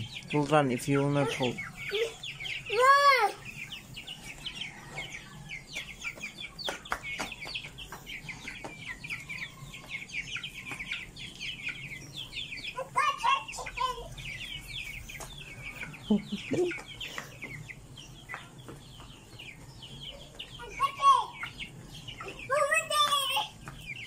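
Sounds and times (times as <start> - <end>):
chicks peeping and clucking: 0.0 - 24.0.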